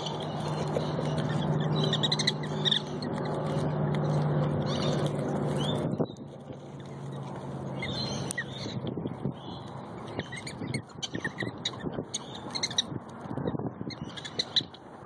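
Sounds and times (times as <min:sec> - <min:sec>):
low hum: 0:00.0 - 0:14.0
prairie dogs squeaking: 0:00.0 - 0:14.9.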